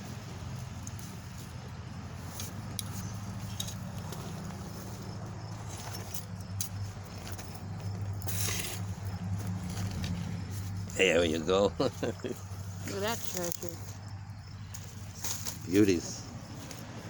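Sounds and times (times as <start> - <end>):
hands rustling dry soil and plants: 0.0 - 17.0.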